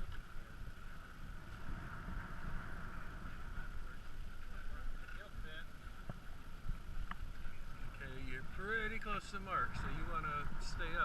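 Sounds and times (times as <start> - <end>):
sailboat rushing through water: 0.0 - 11.0
wind rumbling on microphone: 0.0 - 11.0.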